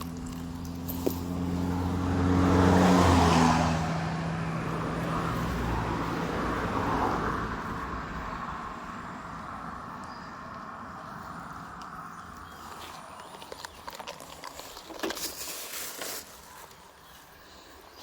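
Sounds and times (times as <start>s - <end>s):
motor vehicle passing: 0.0s - 15.8s.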